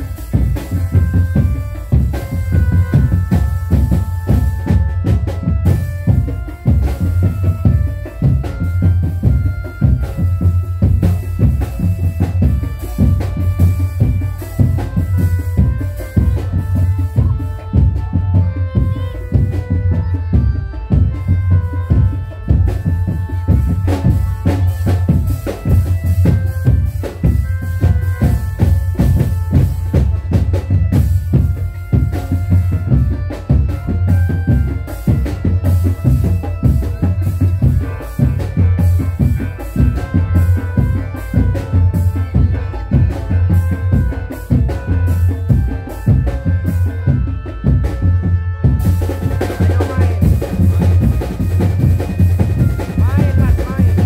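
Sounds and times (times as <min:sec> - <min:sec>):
heavy fast drums: 0:00.0 - 0:54.0.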